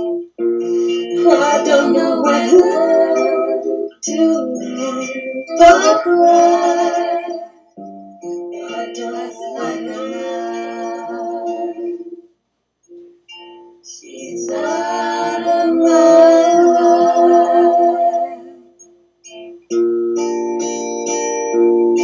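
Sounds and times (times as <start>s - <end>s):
vocal harmony with held notes: 0.0s - 22.0s.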